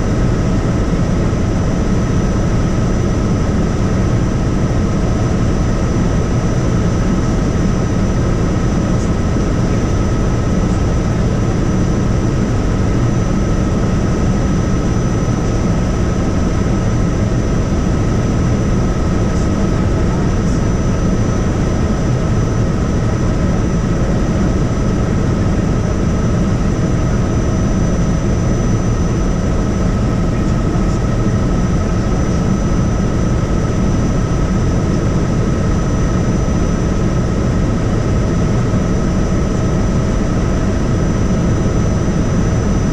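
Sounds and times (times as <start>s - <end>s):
helicopter rotor and engine drone: 0.0s - 42.9s.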